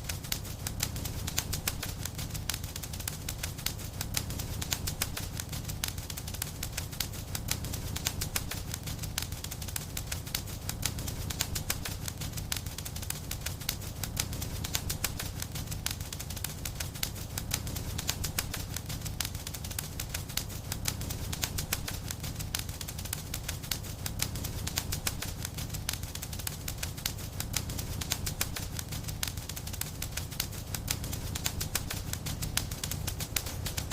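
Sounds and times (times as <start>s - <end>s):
low rumble of flames: 0.0s - 33.9s
wood fire crackling: 0.0s - 33.9s.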